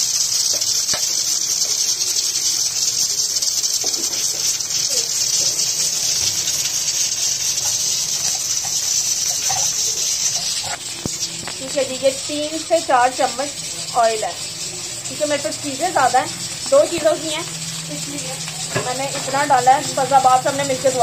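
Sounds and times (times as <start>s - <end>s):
kitchen utensils clinking: 3.6s - 21.0s.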